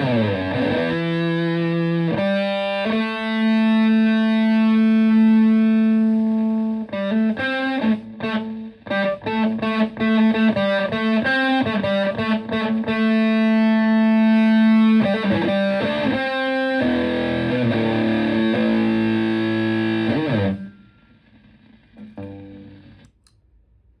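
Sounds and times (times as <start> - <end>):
distorted electric guitar: 0.0 - 23.1.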